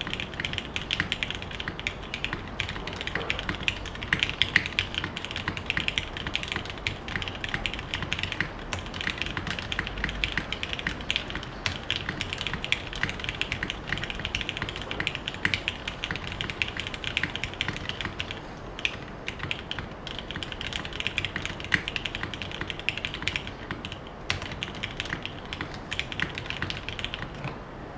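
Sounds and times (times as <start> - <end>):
mechanical keyboard typing: 0.0 - 27.6.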